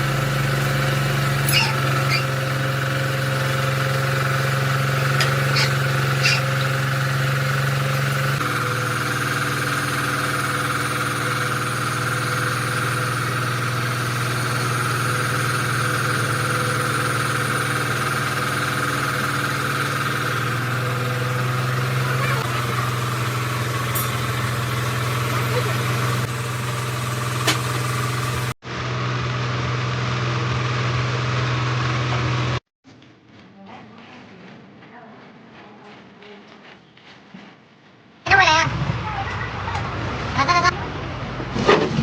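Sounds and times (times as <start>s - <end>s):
diesel truck engine idling: 0.0s - 32.6s, 38.3s - 42.0s.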